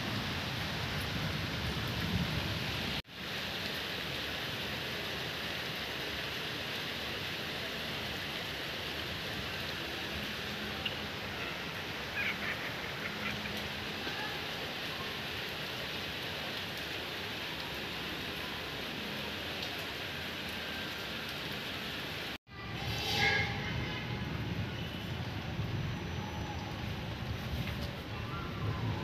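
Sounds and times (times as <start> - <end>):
steady hiss of rain falling: 0.0 - 29.0.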